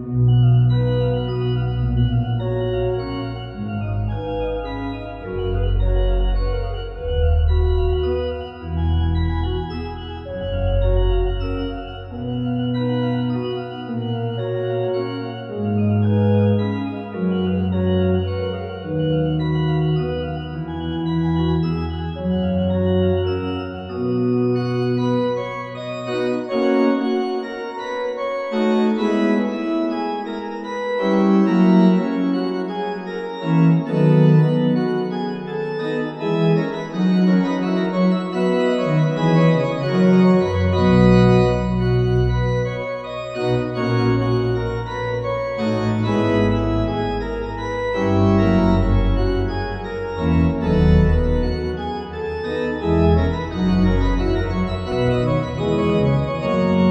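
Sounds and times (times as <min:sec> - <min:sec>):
deep organ pedal bass: 0:00.0 - 0:56.9
pipe organ playing: 0:00.0 - 0:56.9.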